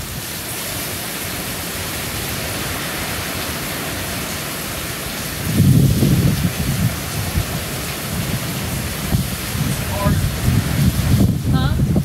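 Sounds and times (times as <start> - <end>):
rain in strong wind: 0.0 - 12.0
wind gust buffeting microphone: 2.3 - 12.0.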